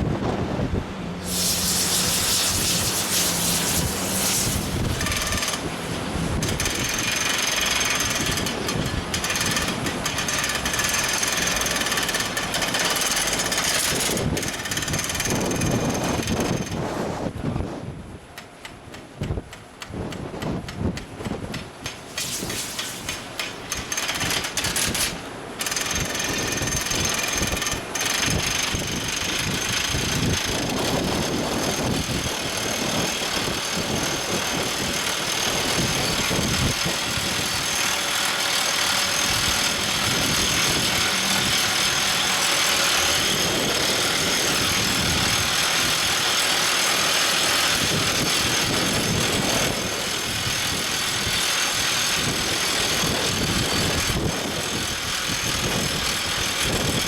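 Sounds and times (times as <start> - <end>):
drill rig machinery running: 0.0 - 17.5, 18.4 - 57.0.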